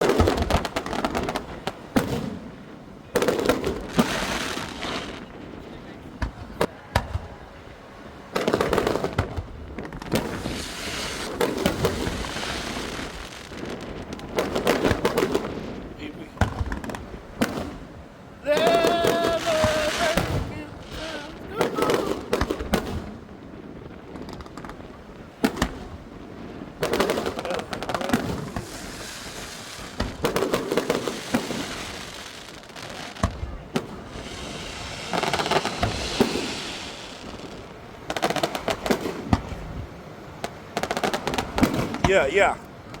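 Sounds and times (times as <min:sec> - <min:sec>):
fireworks bursting: 0:00.0 - 0:43.0
fireworks crackling: 0:00.0 - 0:43.0.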